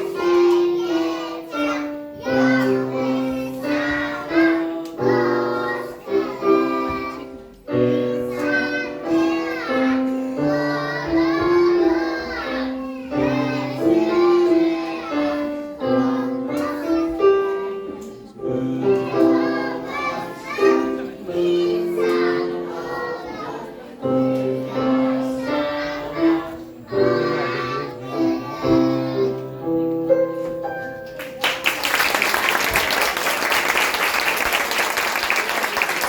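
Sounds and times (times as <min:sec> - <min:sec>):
children singing together: 0:00.0 - 0:30.5.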